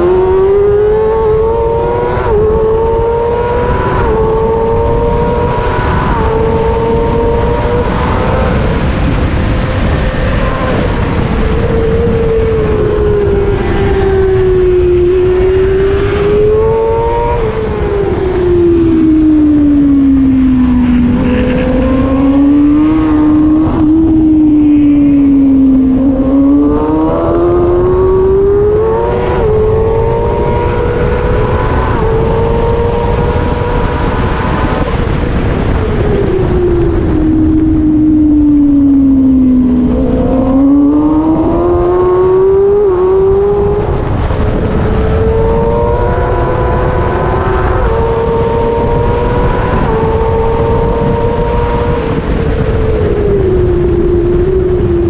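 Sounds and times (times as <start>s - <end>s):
heavy wind rush: 0.0s - 55.0s
racing motorcycle engine at high revs: 0.0s - 55.0s.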